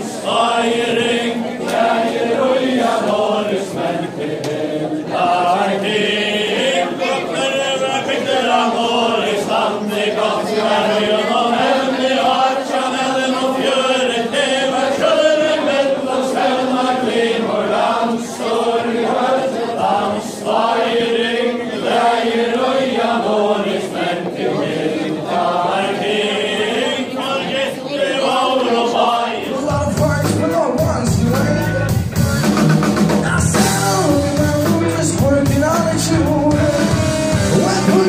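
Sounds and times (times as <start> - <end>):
crowd singing in unison: 0.0 - 32.2, 33.0 - 38.0.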